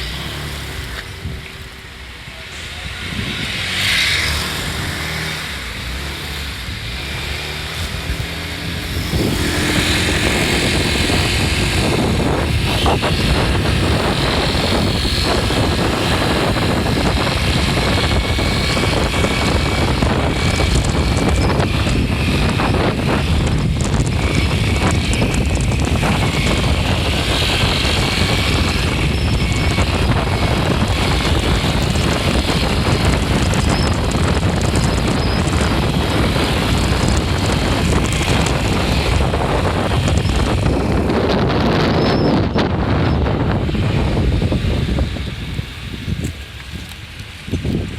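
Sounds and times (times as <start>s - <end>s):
abnormal engine noise: 0.0s - 47.9s
scooter engine running: 0.0s - 47.9s.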